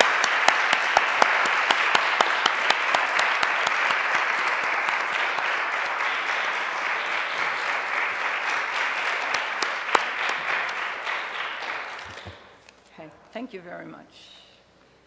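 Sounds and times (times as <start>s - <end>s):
audience applauding: 0.0s - 12.6s
sharp individual claps: 0.0s - 12.6s.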